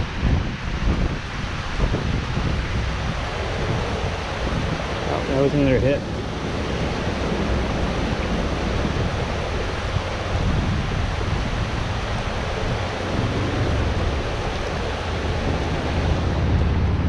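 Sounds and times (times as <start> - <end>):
water rushing through spillway: 0.0 - 17.0.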